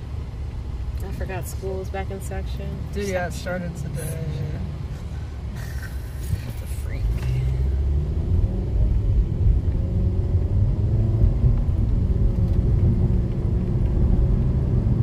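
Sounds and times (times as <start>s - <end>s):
car engine rumble: 0.0s - 15.0s
road noise inside car: 0.0s - 15.0s.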